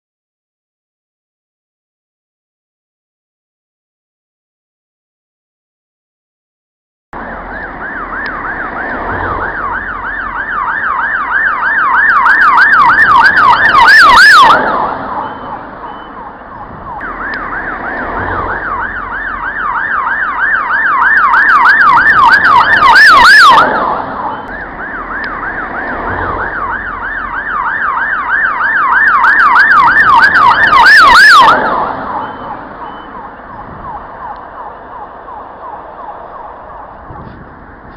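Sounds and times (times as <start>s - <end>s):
ambulance siren yelping: 7.2s - 37.9s.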